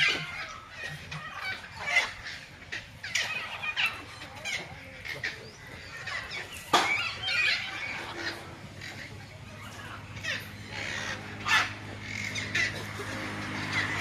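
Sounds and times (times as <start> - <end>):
birds chirping: 0.0 - 14.0
macaws squawking: 0.0 - 14.0.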